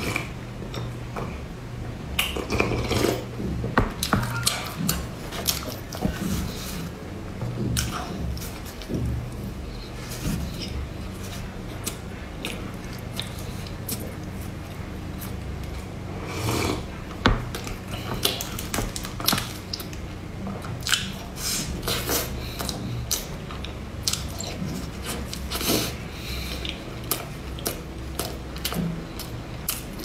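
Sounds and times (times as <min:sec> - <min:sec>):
wet chewing: 0:04.0 - 0:15.8, 0:16.9 - 0:30.0.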